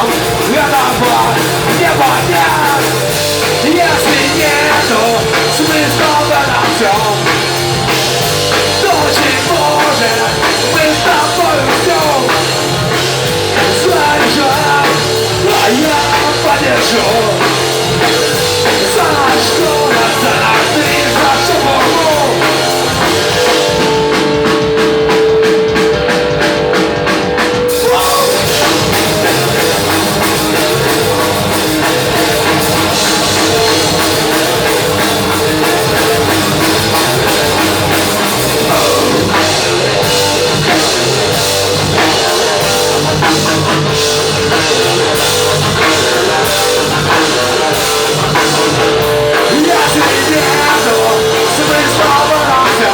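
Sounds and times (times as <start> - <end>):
rock band instrumental: 0.0 - 52.9.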